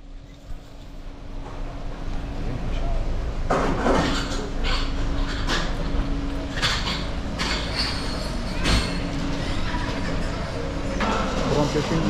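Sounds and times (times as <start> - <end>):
low street hum: 0.0 - 12.0.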